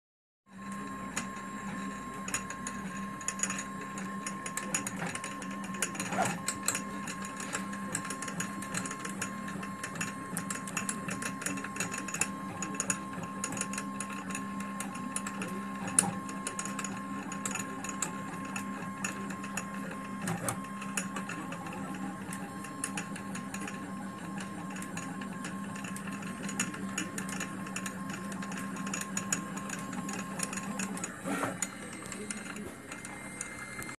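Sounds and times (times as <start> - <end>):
three-d printer motors whirring: 0.5 - 33.9
constant high tone: 0.6 - 33.9.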